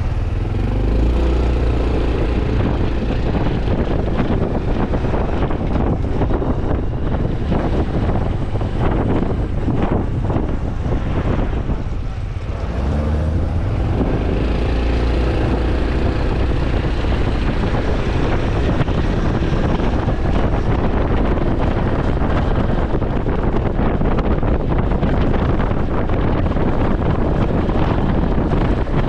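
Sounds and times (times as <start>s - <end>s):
motorcycle engine accelerating: 0.0s - 29.0s
wind buffeting microphone: 0.0s - 29.0s.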